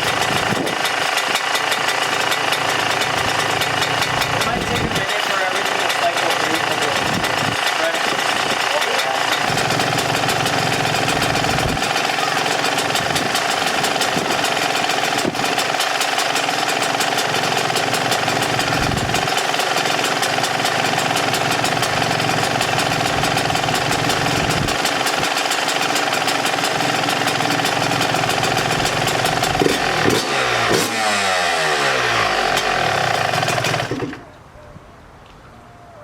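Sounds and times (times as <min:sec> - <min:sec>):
two-stroke engine idling: 0:00.0 - 0:34.3.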